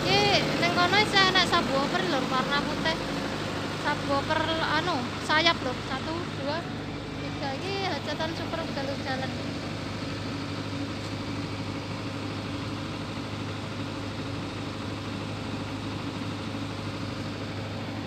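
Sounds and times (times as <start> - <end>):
generator engine humming: 0.0 - 18.0.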